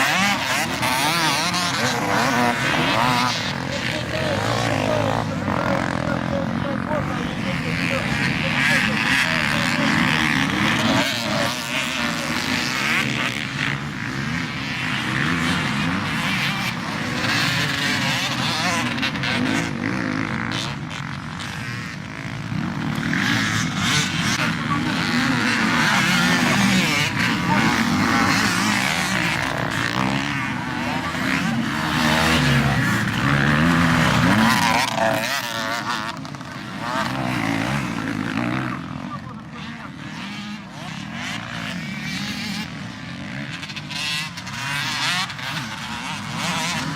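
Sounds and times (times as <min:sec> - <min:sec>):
motocross motorcycles revving: 0:00.0 - 0:46.9.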